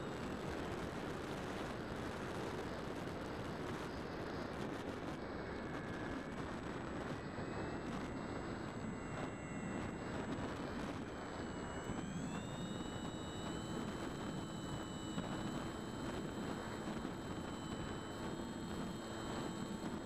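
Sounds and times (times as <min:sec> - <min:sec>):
electric motor and propeller whine: 0:00.0 - 0:20.0.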